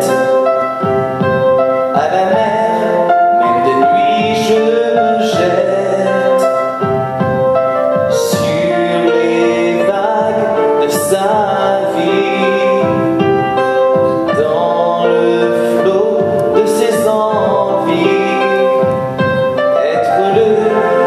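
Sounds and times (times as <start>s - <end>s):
man singing slow song: 0.0s - 1.0s, 1.9s - 7.2s, 7.9s - 21.0s
instrumental accompaniment: 0.0s - 21.0s.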